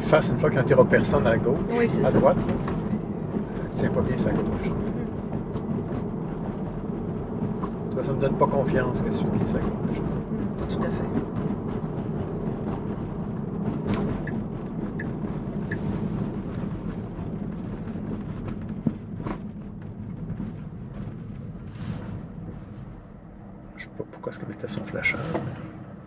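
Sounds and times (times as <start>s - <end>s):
road and tyre noise in car cabin: 0.0s - 26.0s.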